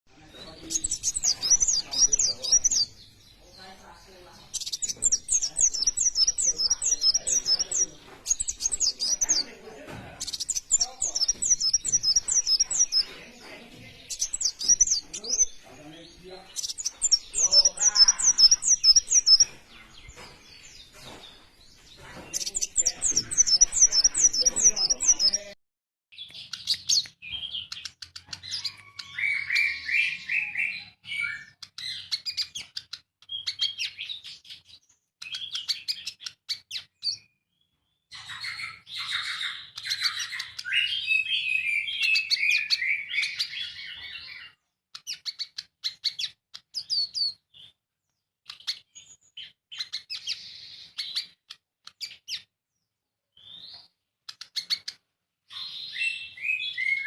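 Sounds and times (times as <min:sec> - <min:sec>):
birds chirping and trilling: 0:00.1 - 0:57.0.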